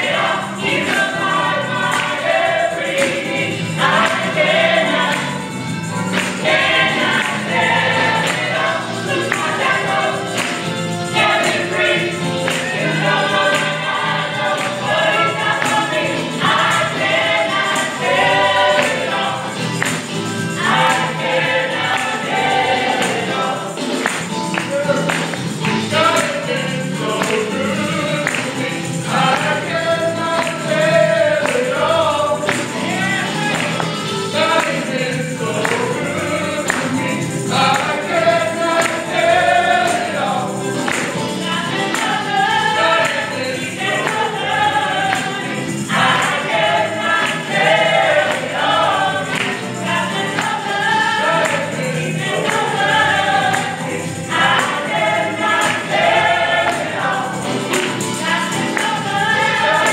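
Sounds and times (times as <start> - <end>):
choir singing over music: 0.0 - 59.9
steady percussive beat: 0.0 - 59.9.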